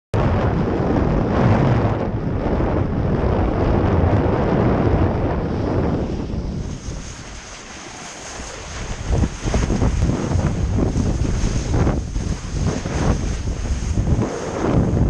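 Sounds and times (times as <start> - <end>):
water rushing under kiteboard: 0.2 - 15.0
wind buffeting microphone: 0.2 - 15.0.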